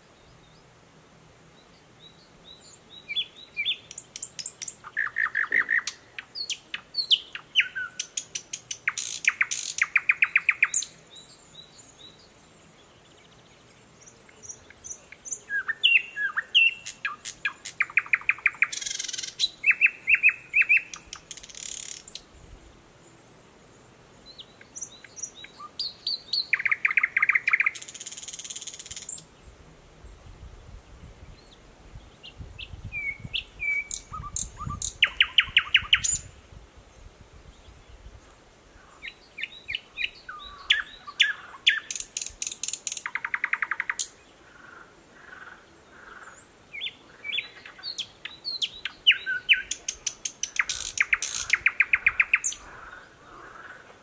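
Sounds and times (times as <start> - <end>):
nightingale singing: 1.5 - 23.2, 23.8 - 29.5, 31.1 - 53.8.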